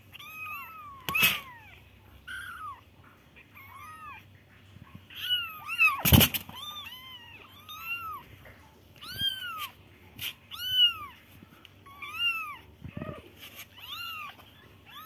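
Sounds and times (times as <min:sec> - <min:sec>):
kittens mewing: 0:00.0 - 0:15.0.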